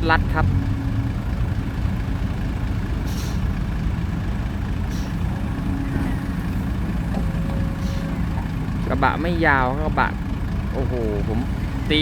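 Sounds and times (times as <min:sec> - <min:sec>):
diesel truck idling: 0:00.0 - 0:12.0.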